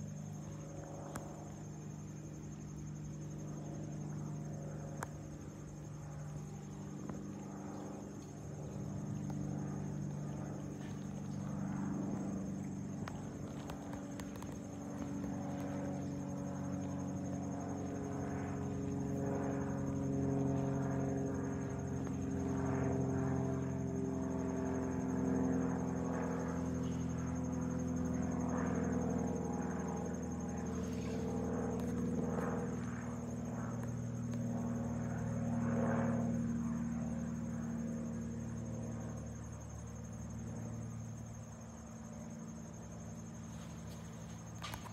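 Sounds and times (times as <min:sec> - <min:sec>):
propeller plane droning overhead: 0:00.0 - 0:44.9.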